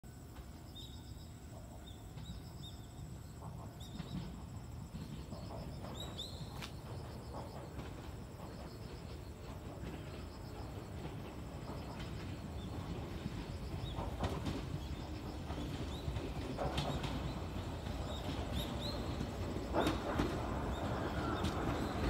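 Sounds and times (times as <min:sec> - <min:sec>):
electric train rumbling: 0:00.0 - 0:22.0
insects trilling: 0:00.1 - 0:22.0
sharp knocks of train: 0:01.5 - 0:22.0.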